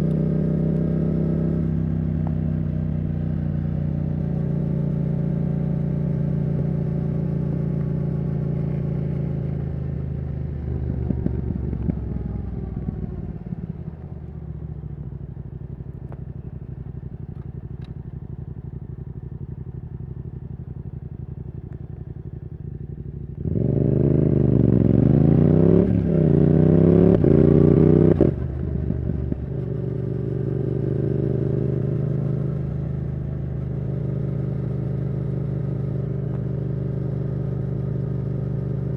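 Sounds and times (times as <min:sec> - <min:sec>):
motorcycle cruising: 0:00.0 - 0:38.9
motorcycle engine accelerating: 0:00.0 - 0:38.9.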